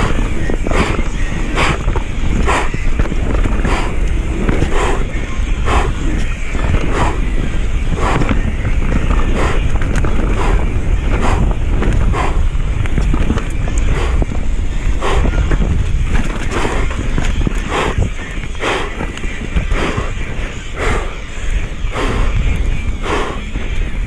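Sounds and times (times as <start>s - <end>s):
bike tyre and frame noise: 0.0s - 24.0s
wind buffeting microphone: 0.0s - 24.0s.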